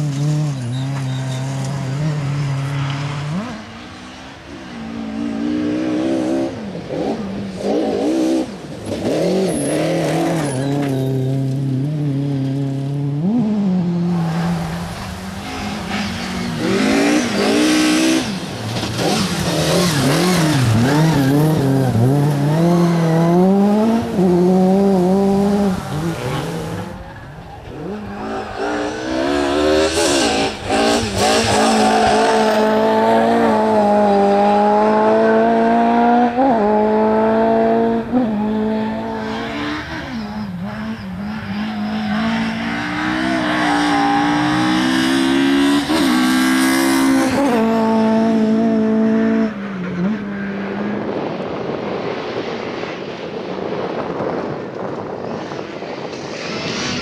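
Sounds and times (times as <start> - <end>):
rally car engine revving: 0.0 - 51.7.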